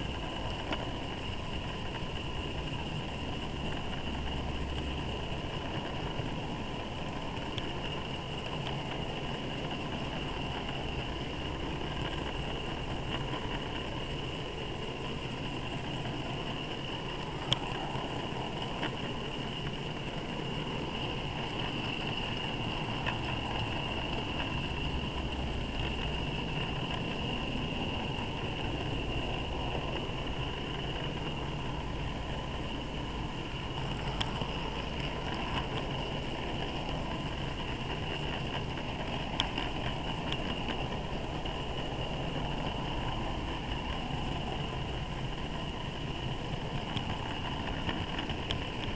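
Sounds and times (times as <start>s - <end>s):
high whine: 0.0s - 48.9s
model train wheels rumbling on rail: 0.0s - 48.9s.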